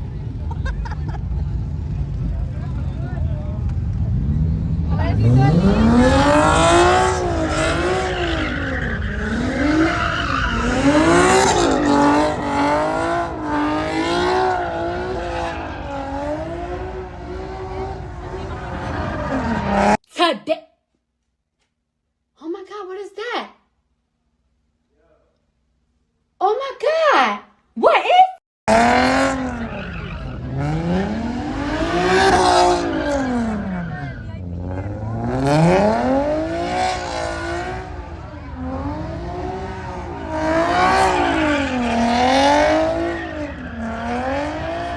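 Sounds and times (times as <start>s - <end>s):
truck engine revving: 0.0s - 20.0s, 28.7s - 44.9s.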